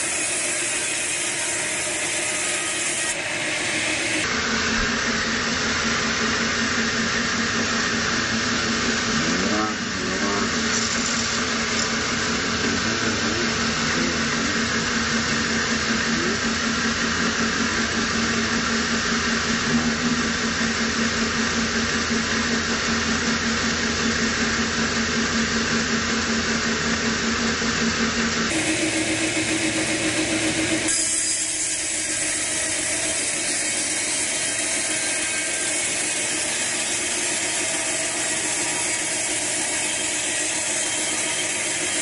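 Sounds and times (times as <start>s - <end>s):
sawmill machine hum: 0.0s - 42.0s.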